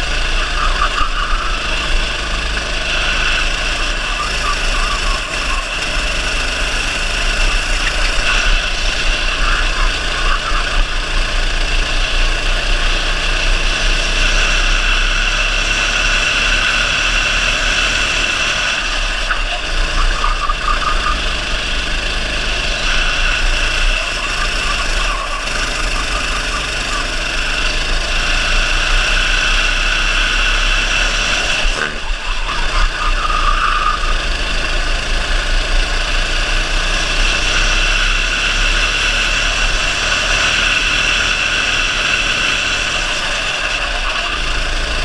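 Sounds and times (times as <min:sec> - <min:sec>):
kart engine running at speed: 0:00.0 - 0:45.0.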